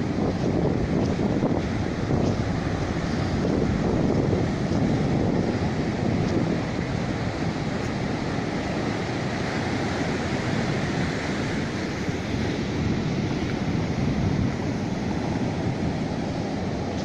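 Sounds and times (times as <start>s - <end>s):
sea surf on shore: 0.0s - 17.0s
wind buffeting microphone: 0.0s - 17.0s.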